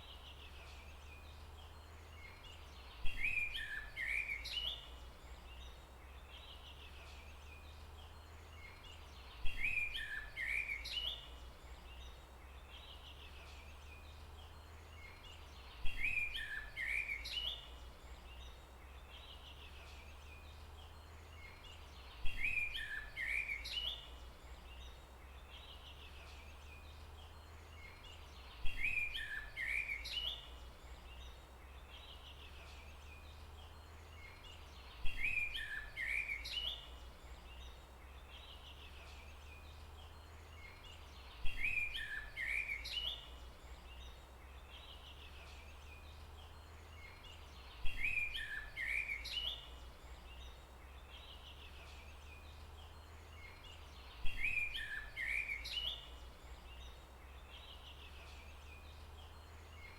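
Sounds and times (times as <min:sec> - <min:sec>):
songbird chirping phrase: 0:00.0 - 0:59.9.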